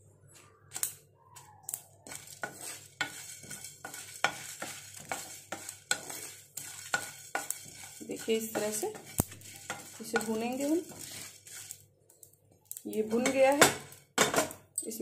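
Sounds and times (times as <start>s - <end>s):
seeds rattling and hissing in a pan: 0.6s - 14.4s
wooden spoon stirring in a pan: 1.3s - 14.6s.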